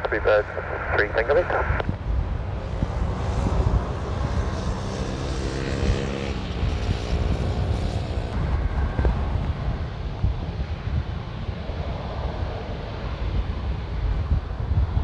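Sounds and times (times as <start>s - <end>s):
jet engine rumble and hiss: 0.0s - 5.2s, 7.5s - 15.0s.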